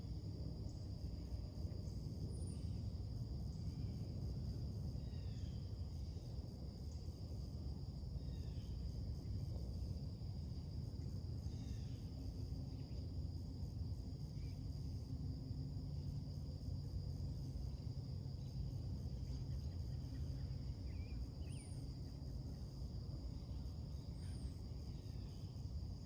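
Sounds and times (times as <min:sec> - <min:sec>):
insect chorus drone: 0:00.0 - 0:26.0.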